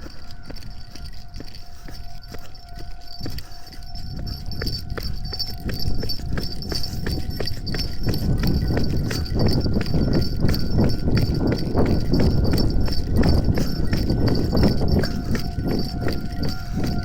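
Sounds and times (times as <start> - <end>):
level-crossing alarm clanging: 0.0 - 17.0
train wheels clattering: 0.0 - 17.0.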